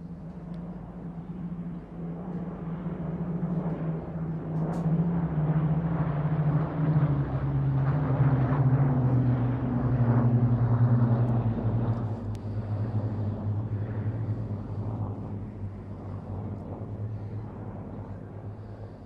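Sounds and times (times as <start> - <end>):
propeller aircraft engines droning: 0.0 - 19.0.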